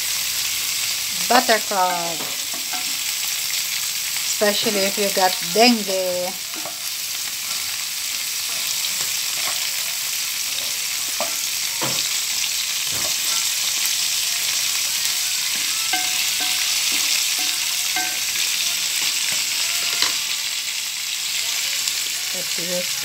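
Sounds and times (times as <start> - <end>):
crabs sizzling in pot: 0.0 - 23.0.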